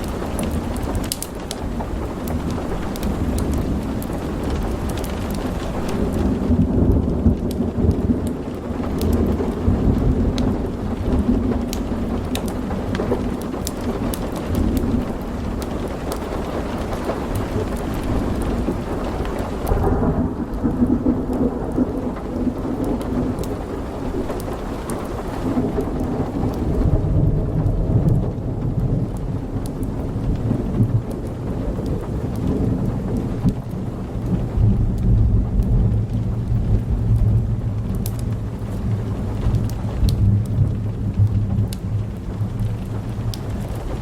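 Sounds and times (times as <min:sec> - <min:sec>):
sharp crackles: 0:00.0 - 0:44.0
steady rain: 0:00.0 - 0:44.0
thunder rumbling: 0:00.0 - 0:44.0.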